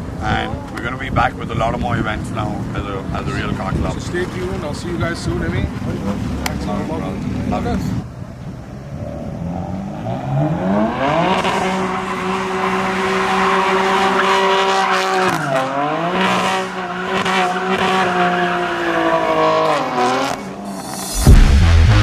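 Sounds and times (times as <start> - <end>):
tyres squealing: 0.4 - 8.1, 10.2 - 21.0
car engine revving high: 1.2 - 22.0.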